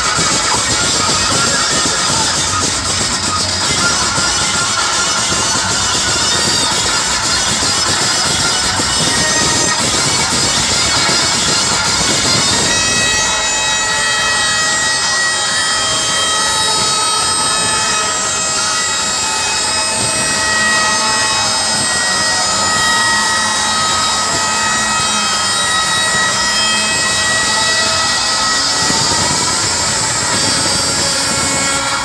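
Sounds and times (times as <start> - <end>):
sustained high-tone drone: 0.0 - 32.0.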